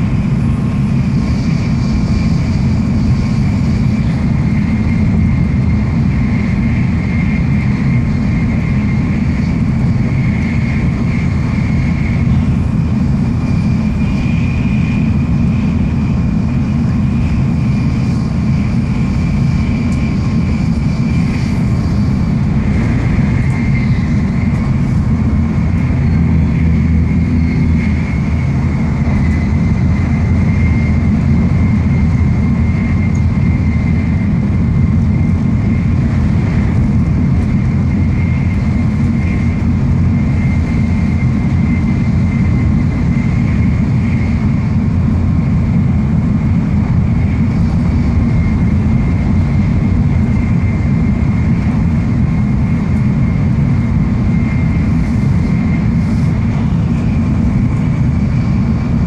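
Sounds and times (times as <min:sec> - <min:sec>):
high whine: 0:00.0 - 0:59.0
train wheel and air rumble: 0:00.0 - 0:59.0.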